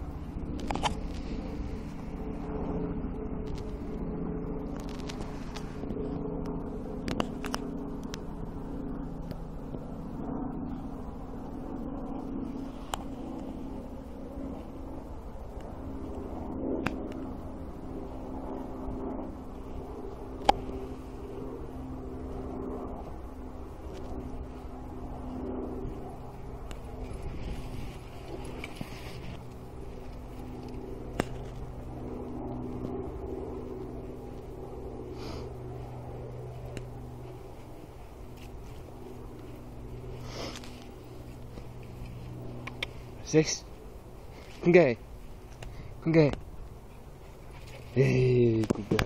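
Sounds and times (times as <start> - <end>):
low background rumble: 0.0 - 49.0
low mechanical drone: 0.0 - 49.0.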